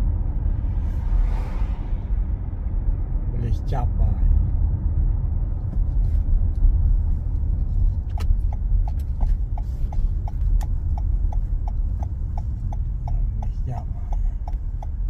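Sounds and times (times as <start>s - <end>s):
car road and engine rumble: 0.0s - 15.0s
turn signal ticking: 2.8s - 15.0s.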